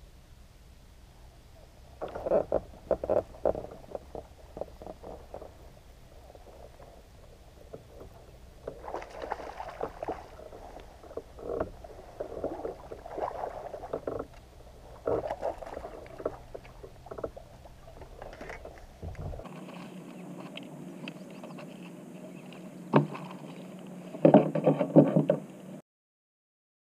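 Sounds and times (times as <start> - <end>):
low rumble: 0.0 - 22.9
knocks and scrapes on plastic kayak: 2.0 - 20.6, 21.2 - 25.5.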